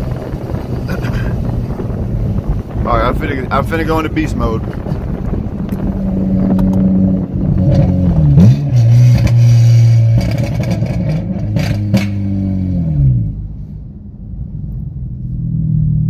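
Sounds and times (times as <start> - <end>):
loud car exhaust from inside cabin: 0.0 - 4.0, 4.6 - 16.0.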